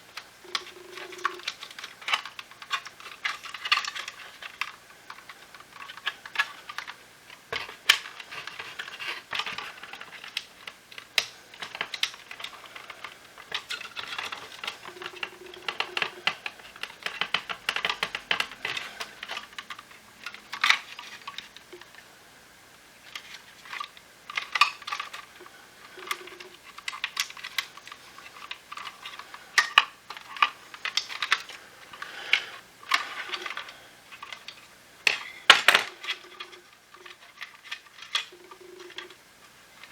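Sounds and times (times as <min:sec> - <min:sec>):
plastic parts clicking and rattling: 0:00.0 - 0:22.0, 0:23.0 - 0:39.9.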